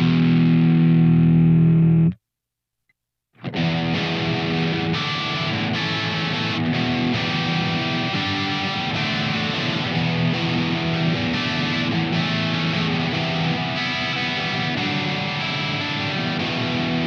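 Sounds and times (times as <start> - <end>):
distorted electric guitar chords: 0.0 - 2.2, 3.4 - 17.0.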